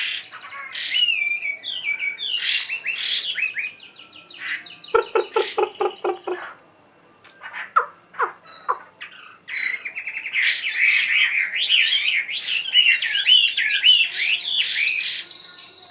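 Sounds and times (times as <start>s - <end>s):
songbird singing whistled phrases: 0.0s - 15.9s.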